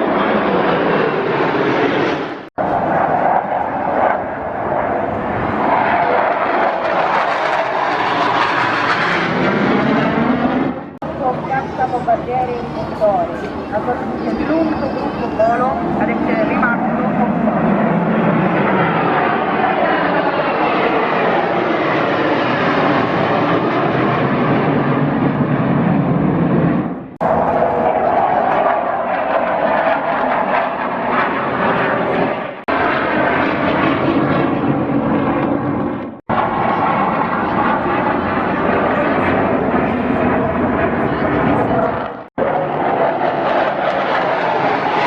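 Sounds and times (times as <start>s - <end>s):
airplane flying over: 0.0s - 45.0s.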